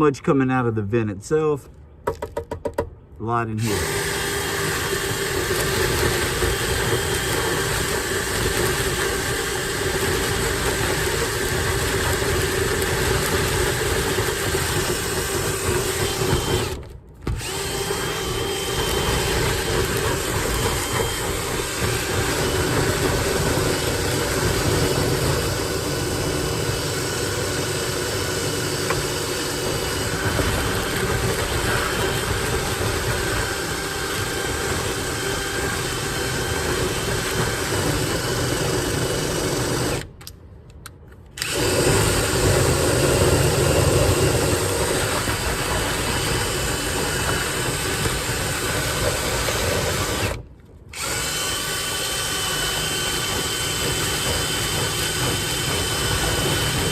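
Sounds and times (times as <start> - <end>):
power tool motor running: 3.6 - 40.1, 41.4 - 56.9.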